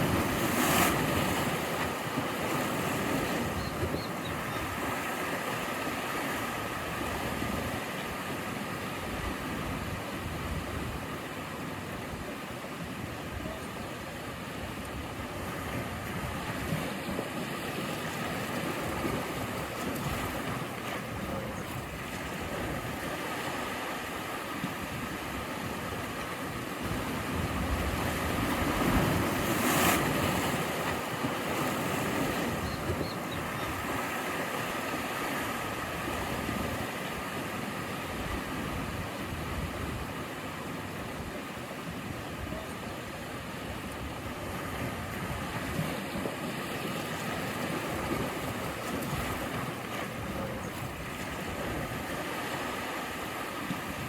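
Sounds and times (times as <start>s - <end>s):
ocean surf washing on shore: 0.0s - 54.0s.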